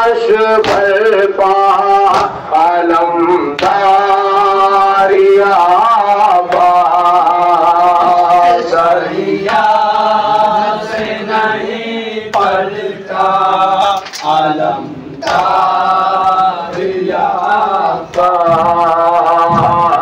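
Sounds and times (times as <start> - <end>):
lead singer: 0.0 - 20.0
men chanting in unison: 0.0 - 20.0.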